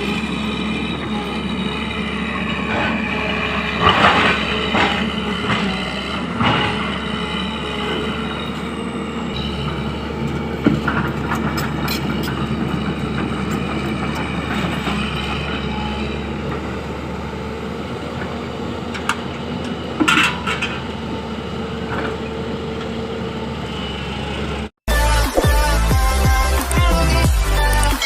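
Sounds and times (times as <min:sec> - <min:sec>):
heavy diesel machinery running: 0:00.0 - 0:28.0.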